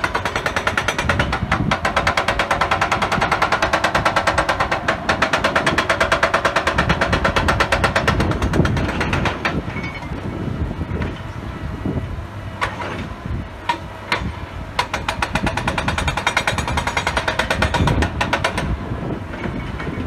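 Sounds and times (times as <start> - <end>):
hydraulic breaker hammering rock: 0.0 - 10.1, 12.6 - 20.0
excavator engine running: 0.0 - 20.0.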